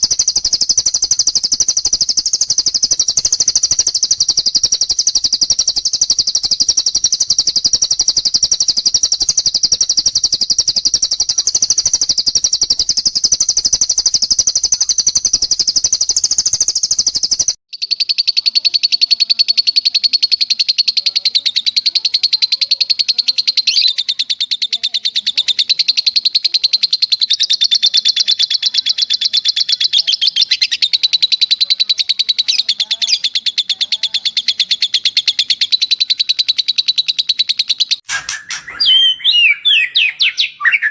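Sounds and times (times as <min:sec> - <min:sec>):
high-pitched bird trill: 0:00.0 - 0:40.9.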